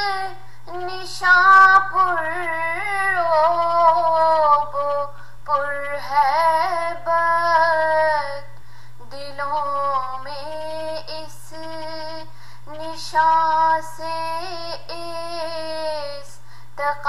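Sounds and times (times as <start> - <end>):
steady low hum: 0.0 - 17.0
woman singing: 0.0 - 17.0.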